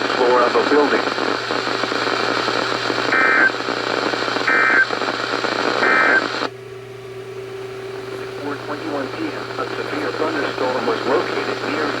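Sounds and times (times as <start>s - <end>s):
radio static: 0.0s - 6.5s, 8.2s - 12.0s.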